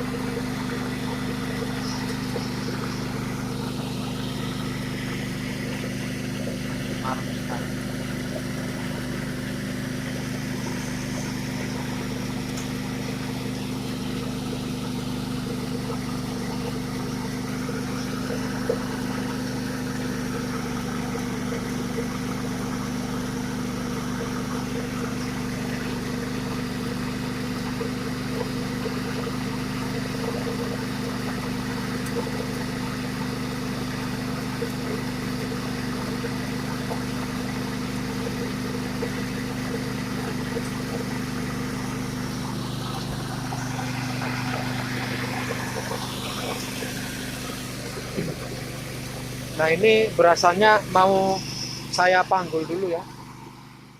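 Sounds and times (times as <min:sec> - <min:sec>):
hulling machine humming: 0:00.0 - 0:53.9.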